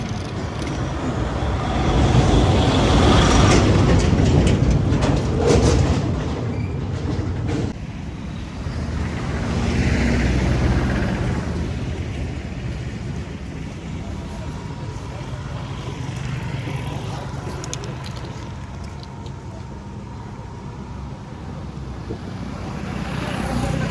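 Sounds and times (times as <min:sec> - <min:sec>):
heavy vehicle engine rumbling: 0:00.0 - 0:23.9.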